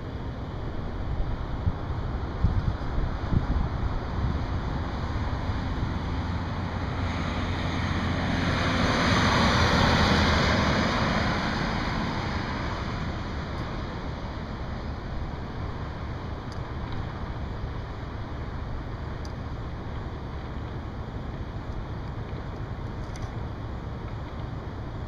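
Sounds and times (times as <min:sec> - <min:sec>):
low rumble of traffic: 0:00.0 - 0:25.0
vehicle tyre and road noise: 0:00.0 - 0:25.0.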